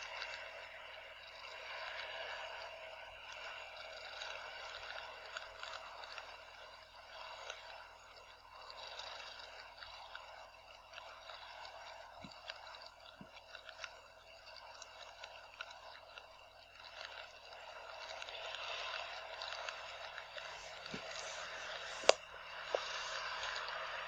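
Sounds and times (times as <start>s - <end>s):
raindrop ticks and crackles: 0.0s - 24.0s.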